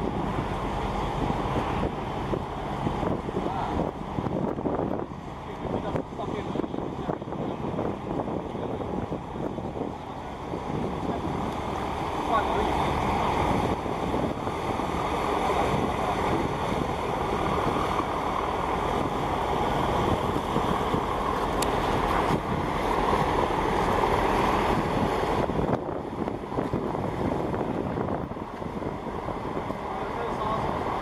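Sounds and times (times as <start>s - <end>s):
choppy water and waves: 0.0s - 31.0s
wind buffeting microphone: 0.0s - 31.0s.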